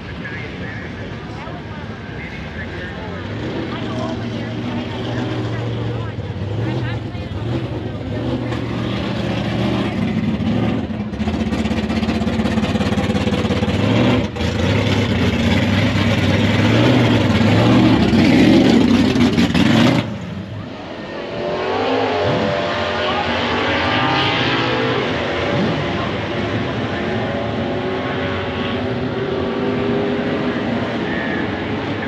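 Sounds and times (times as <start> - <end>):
drag race cars full throttle: 0.0 - 32.0
engine with wavering pitch: 0.0 - 32.0.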